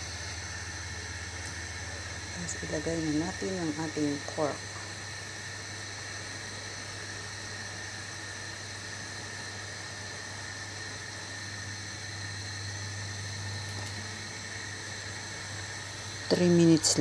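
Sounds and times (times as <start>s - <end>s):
stove hiss: 0.0s - 17.0s.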